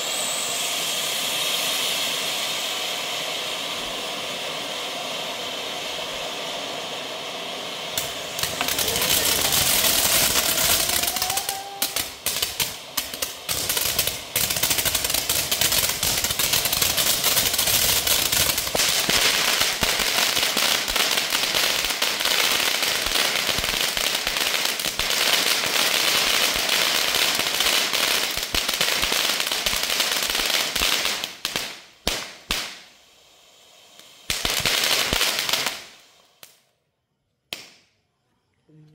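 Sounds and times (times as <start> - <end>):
fountain firework crackling: 0.0 - 36.8.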